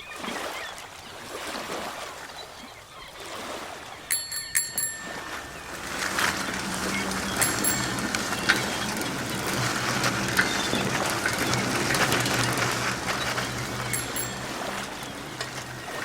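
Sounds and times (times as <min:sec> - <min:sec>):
sea waves washing: 0:03.2 - 0:16.0.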